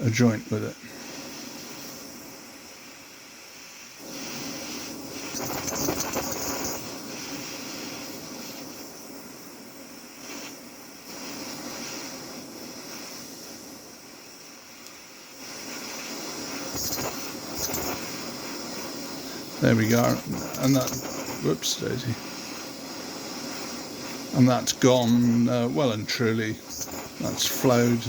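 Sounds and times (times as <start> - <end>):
gas torch flame hissing: 0.0 - 28.0.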